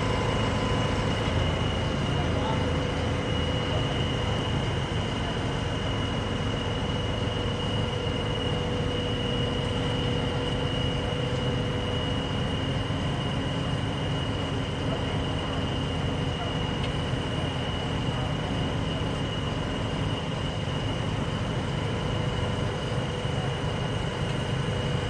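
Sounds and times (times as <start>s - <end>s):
crane engine droning: 0.0s - 25.0s
high-pitched whine: 0.0s - 25.0s.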